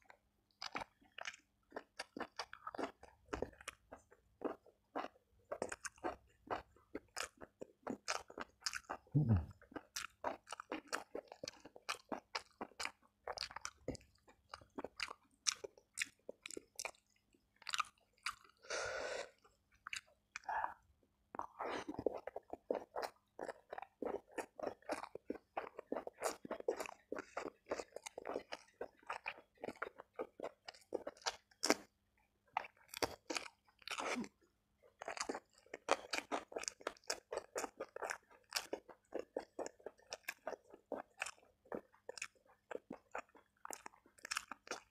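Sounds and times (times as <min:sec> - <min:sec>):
chewing with wet mouth clicks: 0:00.0 - 0:18.6, 0:19.4 - 0:44.9.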